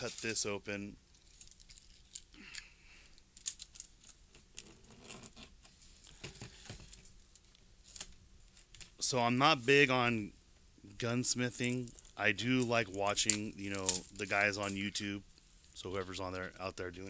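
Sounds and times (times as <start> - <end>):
wrapping crinkling: 0.0 - 10.0, 11.0 - 17.0.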